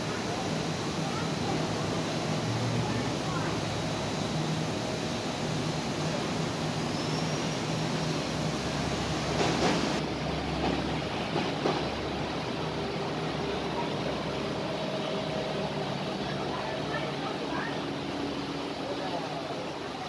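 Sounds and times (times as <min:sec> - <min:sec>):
ambient hum and hiss: 0:00.0 - 0:20.0.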